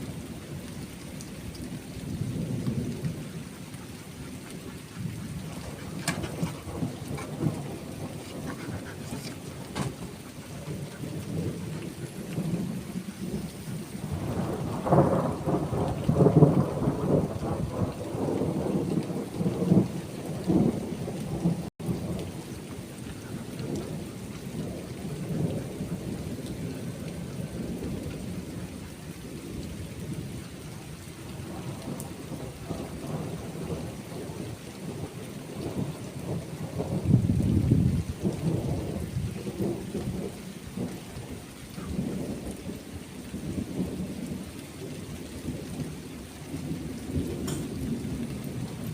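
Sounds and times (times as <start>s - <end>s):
rolling thunder: 0.0s - 48.9s
steady rain falling: 0.0s - 48.9s.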